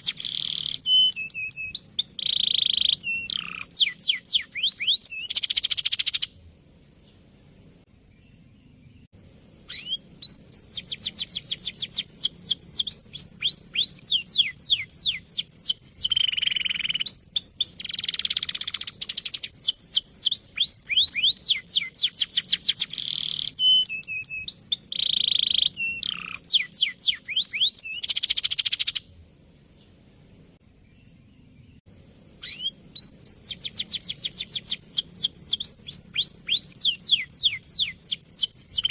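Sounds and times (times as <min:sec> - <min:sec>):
canary singing trills: 0:00.0 - 0:30.0, 0:30.9 - 0:38.9.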